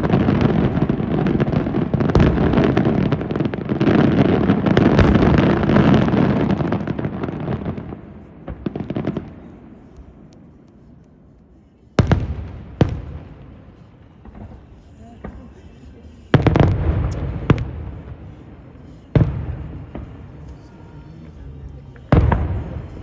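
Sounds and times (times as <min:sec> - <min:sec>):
loud fireworks booms: 0:00.0 - 0:10.5, 0:12.0 - 0:23.0
fireworks bangs and crackling: 0:00.0 - 0:11.2, 0:11.8 - 0:23.0.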